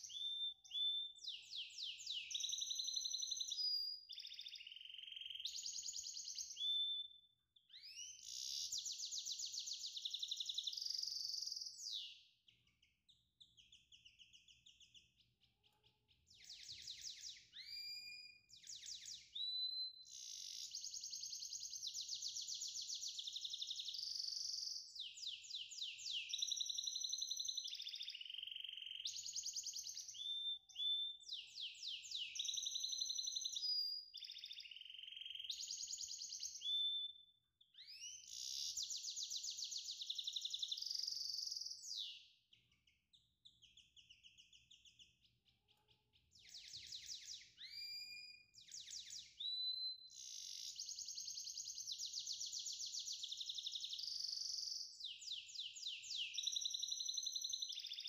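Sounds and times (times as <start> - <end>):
songbird trilling and warbling: 0.0 - 58.0.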